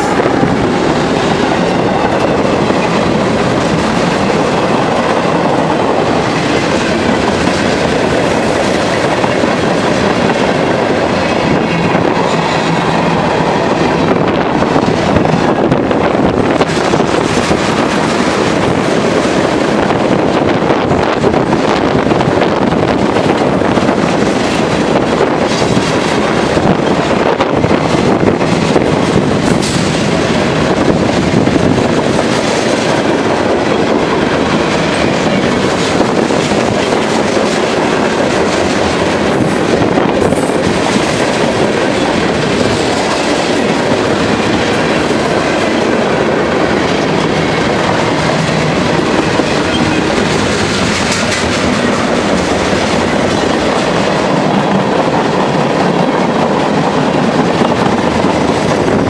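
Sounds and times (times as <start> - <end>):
train wheels rushing on rails: 0.0 - 59.0.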